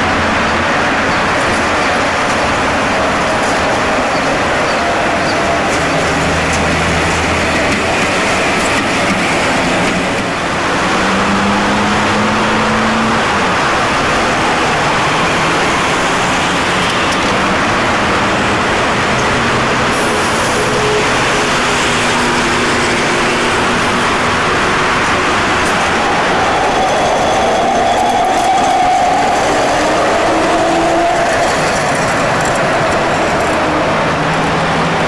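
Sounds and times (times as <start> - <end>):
street traffic noise: 0.0 - 35.0.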